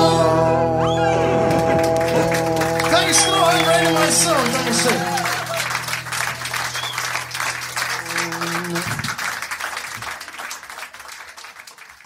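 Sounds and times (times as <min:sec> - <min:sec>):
audience applauding: 0:00.9 - 0:12.0.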